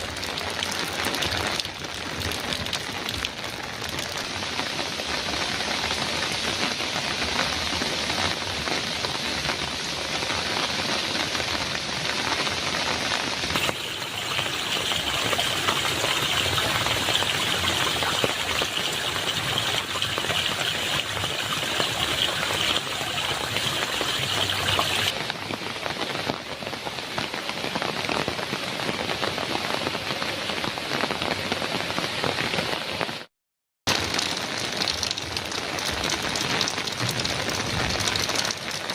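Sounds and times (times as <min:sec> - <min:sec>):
heavy rain on a metal roof: 0:00.0 - 0:33.3, 0:33.9 - 0:38.9.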